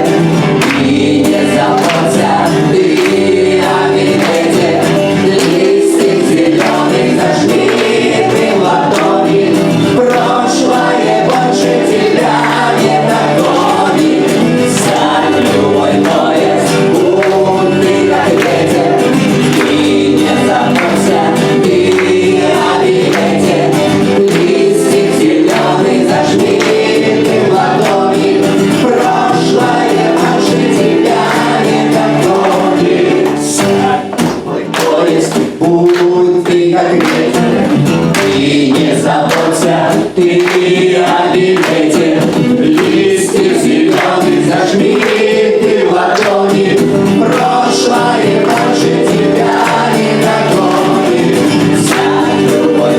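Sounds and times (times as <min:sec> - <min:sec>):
group singing in chorus: 0:00.0 - 0:52.9
musical accompaniment: 0:00.0 - 0:52.9.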